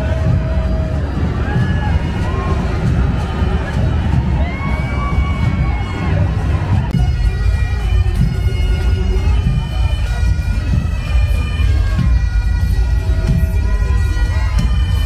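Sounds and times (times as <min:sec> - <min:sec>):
bagpipes playing: 0:00.0 - 0:15.0.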